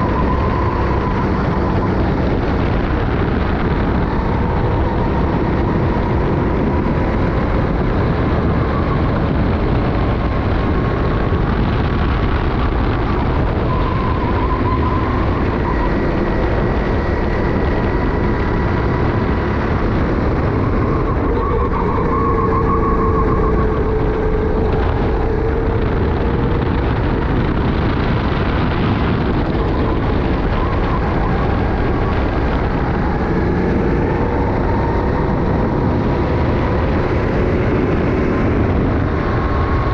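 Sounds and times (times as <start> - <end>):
kart engine racing: 0.0 - 39.9
wind rushing on camera: 0.0 - 39.9.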